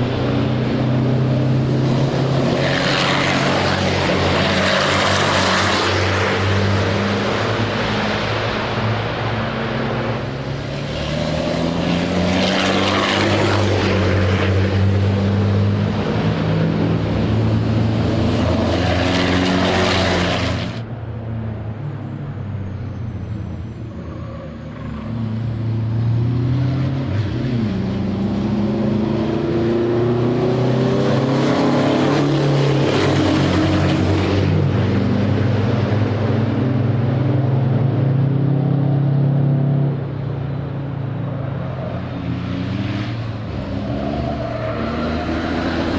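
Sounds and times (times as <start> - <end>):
truck diesel engines racing: 0.0 - 45.9.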